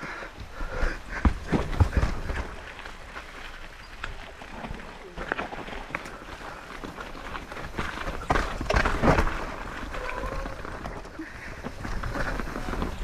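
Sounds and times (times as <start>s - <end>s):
bike rattling over dirt trail: 0.0s - 13.0s.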